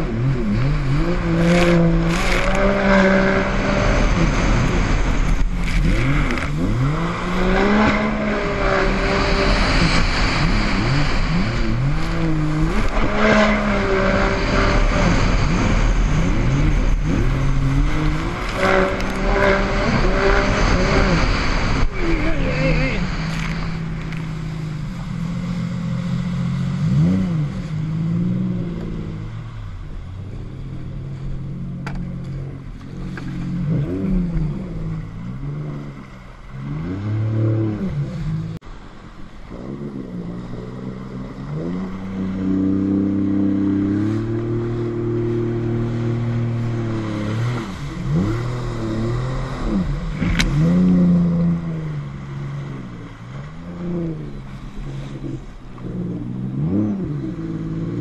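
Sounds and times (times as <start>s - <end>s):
jet ski engine revving: 0.0s - 58.0s
wind on microphone: 0.0s - 58.0s.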